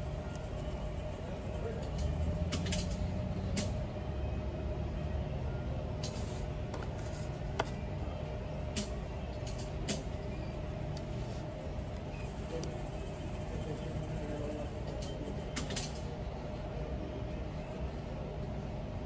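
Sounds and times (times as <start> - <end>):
faint constant tone: 0.0 - 19.0
low mechanical hum: 0.0 - 19.0.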